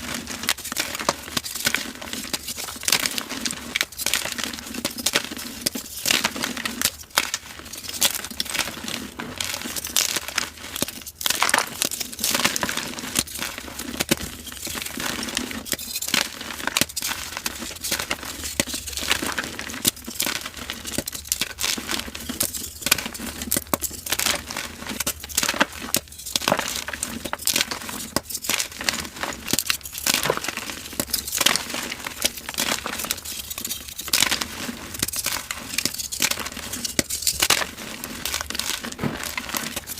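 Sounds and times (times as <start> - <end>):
chalk crumbling in hands: 0.0 - 39.9.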